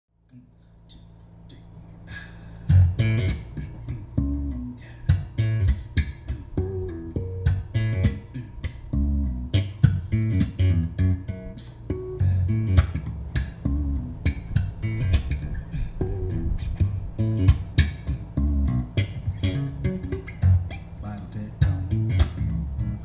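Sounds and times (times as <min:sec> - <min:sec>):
guitar music with bass line: 0:00.3 - 0:23.0.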